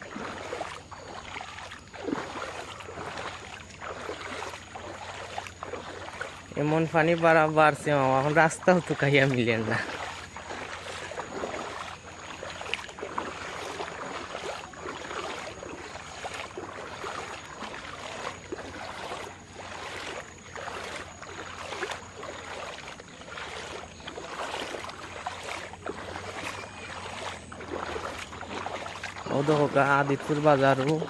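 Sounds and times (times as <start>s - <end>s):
floodwater splashing in strokes: 0.0s - 31.0s
water washing: 0.0s - 31.0s.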